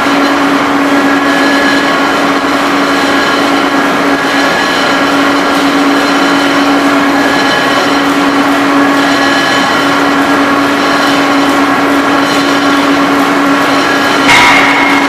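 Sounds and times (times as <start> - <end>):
machine whining tones: 0.0 - 15.0
ring rolling machine drone: 0.0 - 15.0.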